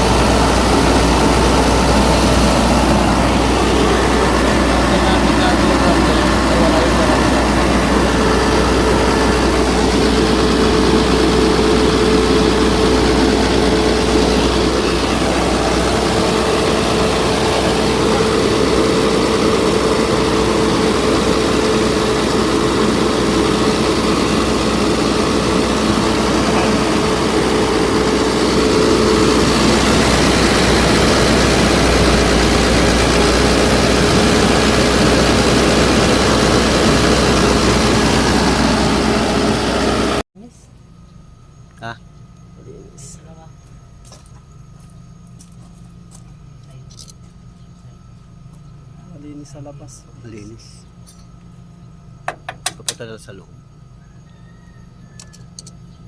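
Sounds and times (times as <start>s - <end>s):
steady hum: 0.0s - 54.0s
generator engine running: 0.0s - 56.0s.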